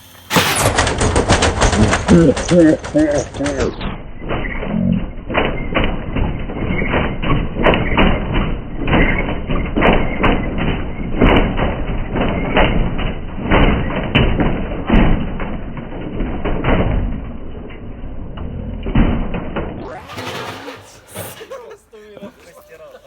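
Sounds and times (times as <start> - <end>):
washing machine banging: 0.3 - 4.5, 5.2 - 17.4, 19.0 - 21.5.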